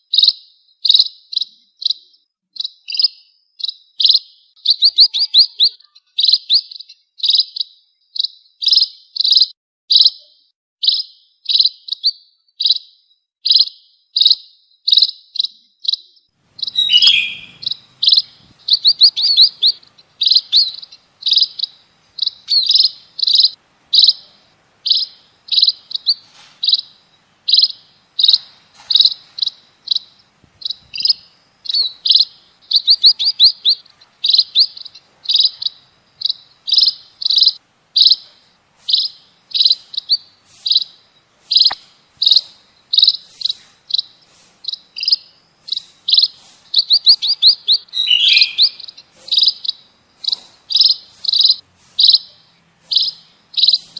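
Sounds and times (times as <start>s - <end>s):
bird chirping bursts: 0.0s - 53.9s.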